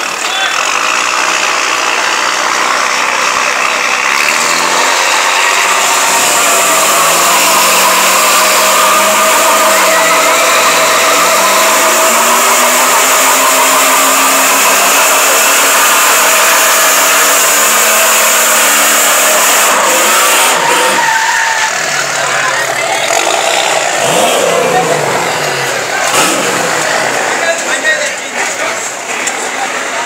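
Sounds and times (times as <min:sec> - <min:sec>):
truck engines running hard: 0:00.0 - 0:30.0.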